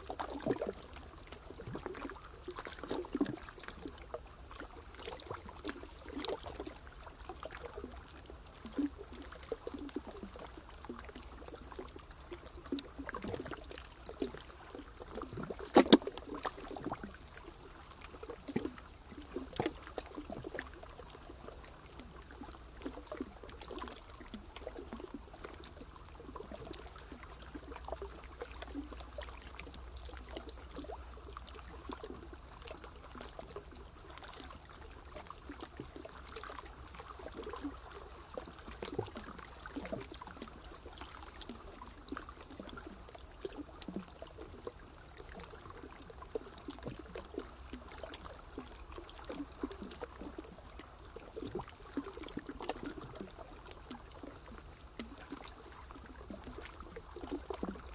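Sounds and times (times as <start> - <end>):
small ticks and drips: 0.0 - 57.9
water trickling: 0.0 - 57.9.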